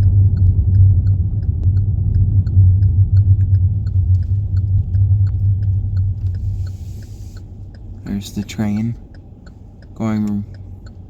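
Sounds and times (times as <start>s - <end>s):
car cabin rumble: 0.0s - 11.0s
train passing: 0.0s - 11.0s.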